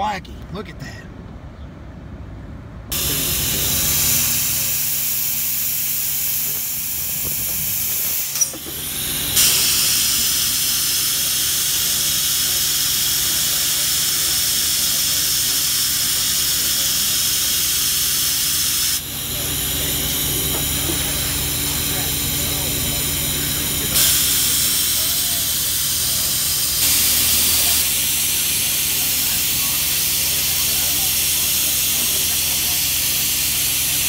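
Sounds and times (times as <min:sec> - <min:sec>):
sharpening machine hissing and humming: 0:02.9 - 0:34.0.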